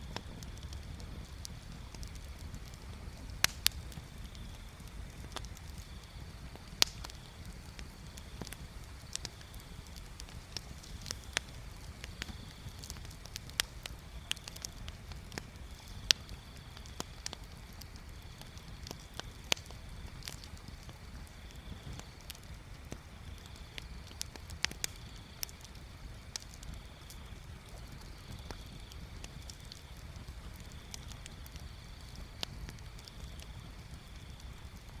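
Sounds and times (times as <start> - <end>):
bonfire crackling: 0.0 - 35.0.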